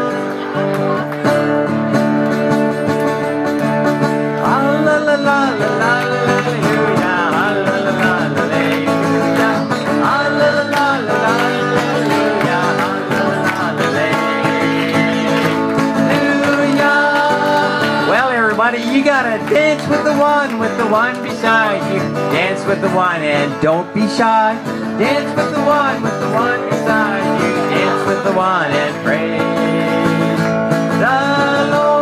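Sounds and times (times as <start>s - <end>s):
acoustic guitar playing: 0.0s - 32.0s
person singing: 4.4s - 32.0s.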